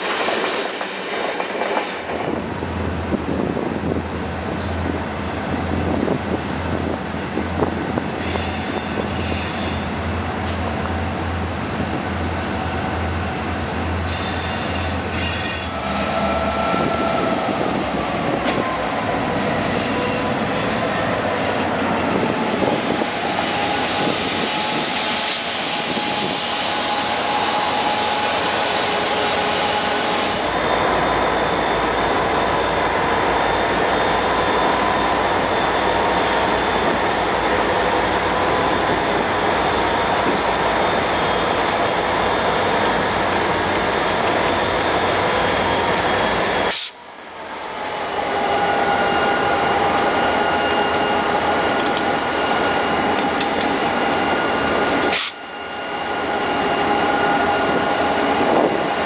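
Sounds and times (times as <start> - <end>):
diesel locomotive engine: 0.0 - 59.0
high whine and squeal: 3.8 - 59.0.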